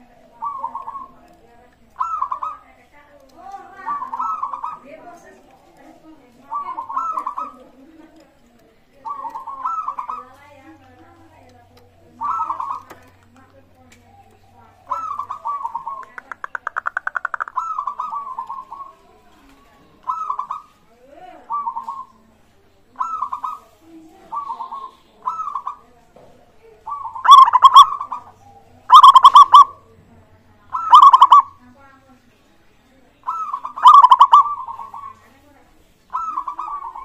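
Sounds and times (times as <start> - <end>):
dove cooing: 0.0 - 30.0, 30.7 - 31.6, 33.2 - 35.4, 36.1 - 37.0.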